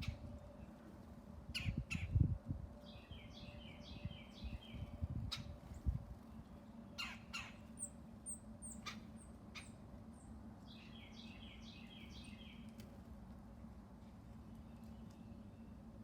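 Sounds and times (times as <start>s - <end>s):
songbirds calling and singing: 0.0s - 0.8s, 1.5s - 12.8s, 14.4s - 15.9s.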